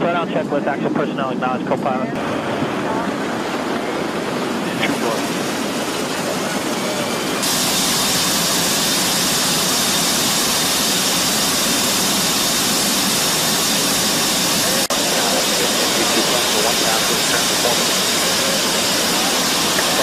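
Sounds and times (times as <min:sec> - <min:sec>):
jet engine noise: 0:00.0 - 0:20.0.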